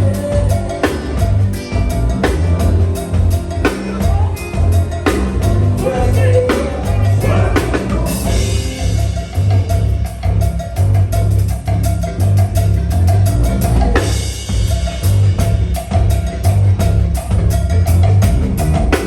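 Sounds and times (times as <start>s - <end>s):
drum kit hits: 0.0s - 19.0s
pulsing bass line: 0.0s - 19.0s.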